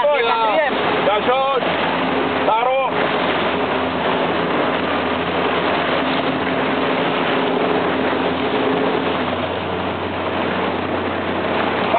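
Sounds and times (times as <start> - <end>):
motorboat engine running: 0.0 - 11.9
wind and water hiss: 0.0 - 11.9.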